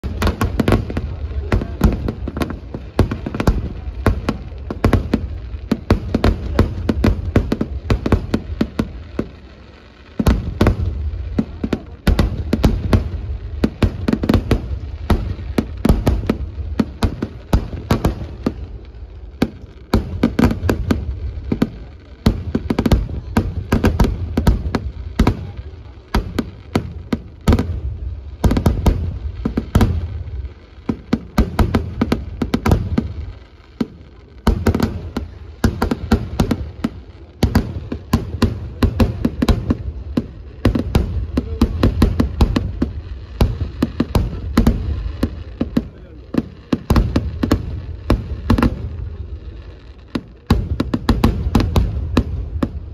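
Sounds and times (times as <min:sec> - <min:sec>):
fireworks cracking and booming: 0:00.0 - 0:52.9.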